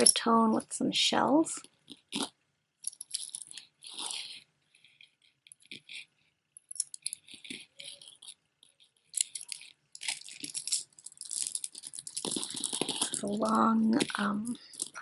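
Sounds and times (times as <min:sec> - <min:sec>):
beads and chain rattling: 0:01.6 - 0:15.0.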